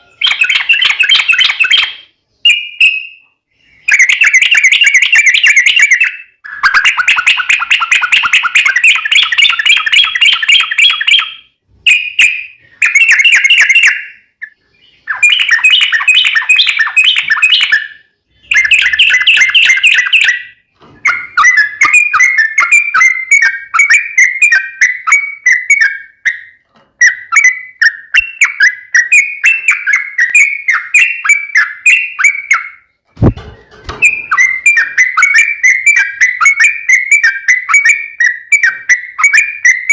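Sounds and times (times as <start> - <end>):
bird singing rapid song: 0.0 - 39.9.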